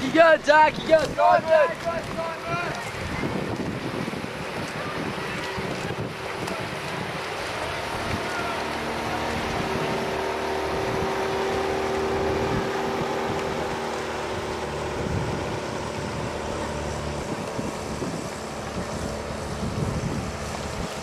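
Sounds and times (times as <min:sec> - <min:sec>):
boat engine humming: 0:00.0 - 0:21.0
wind buffeting microphone: 0:00.0 - 0:21.0.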